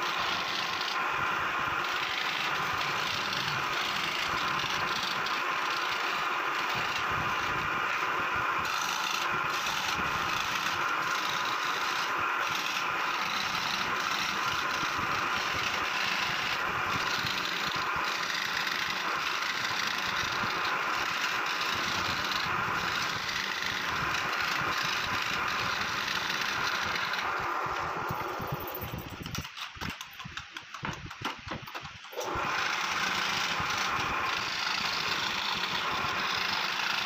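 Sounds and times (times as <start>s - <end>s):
mechanical running noise: 0.0s - 37.0s.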